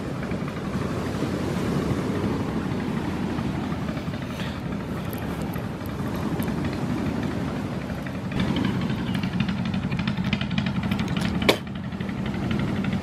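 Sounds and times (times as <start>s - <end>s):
engine running with rattling ticks: 0.0s - 13.0s.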